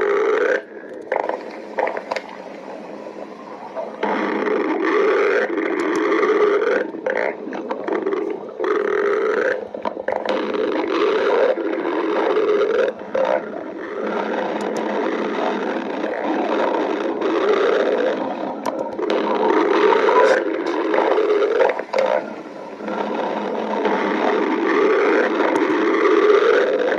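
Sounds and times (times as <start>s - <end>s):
stomach growling: 0.0s - 26.9s.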